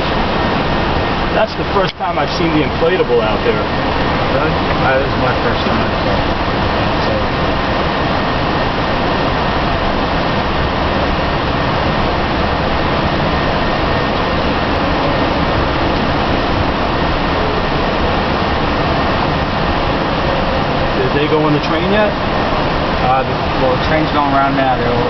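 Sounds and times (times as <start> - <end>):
air and machinery noise: 0.0 - 25.0.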